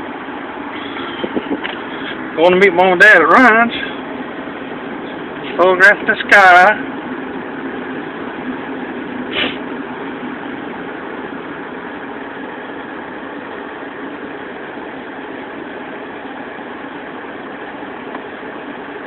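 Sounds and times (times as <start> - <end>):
car engine humming inside cabin: 0.0 - 19.0.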